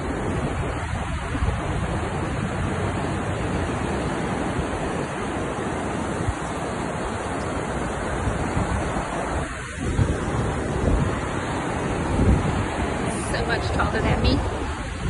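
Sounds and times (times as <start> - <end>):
breaking surf: 0.0 - 15.0
wind buffeting microphone: 0.0 - 15.0.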